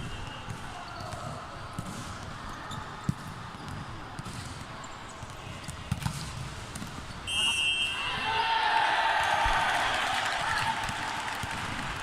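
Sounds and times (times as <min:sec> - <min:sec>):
background noise of hall: 0:00.0 - 0:12.0.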